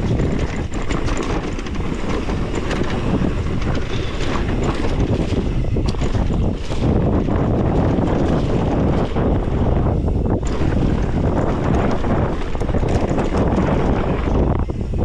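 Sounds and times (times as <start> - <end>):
bike clicks and rattles: 0.0 - 15.0
tyres rumbling on dirt: 0.0 - 15.0
wind buffeting microphone: 0.0 - 15.0.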